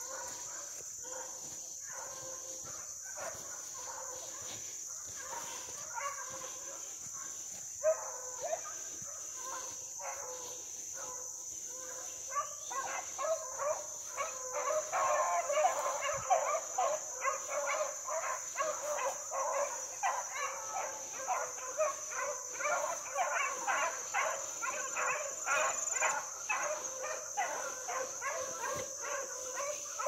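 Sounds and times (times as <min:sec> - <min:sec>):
hounds baying and yelping: 0:00.0 - 0:30.0.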